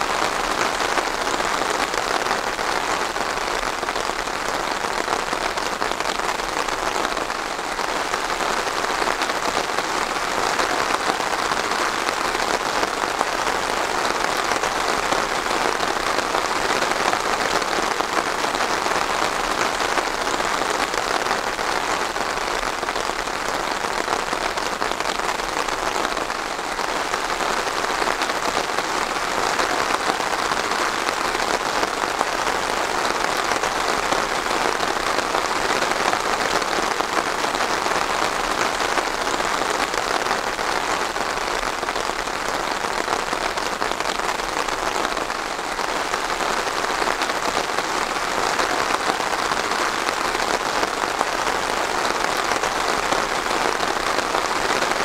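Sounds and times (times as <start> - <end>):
steady rain patter: 0.0 - 55.0.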